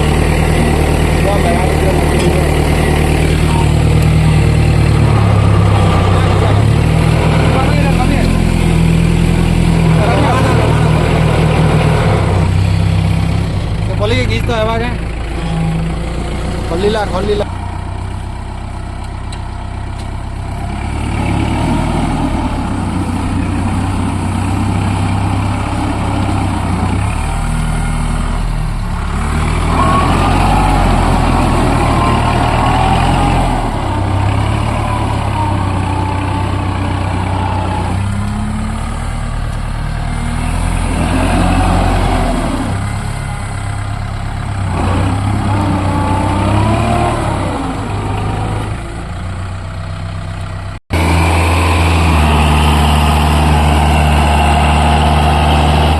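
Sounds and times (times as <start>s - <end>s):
tractor diesel engine straining: 0.0s - 55.9s.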